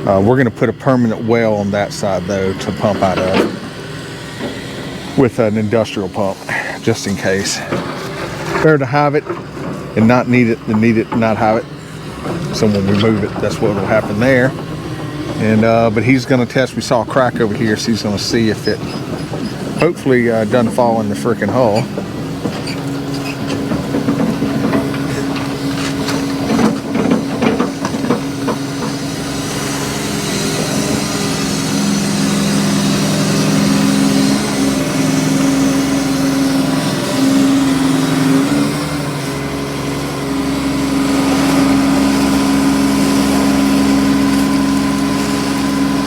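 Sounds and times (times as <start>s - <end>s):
heavy machine engine running: 0.0s - 46.0s.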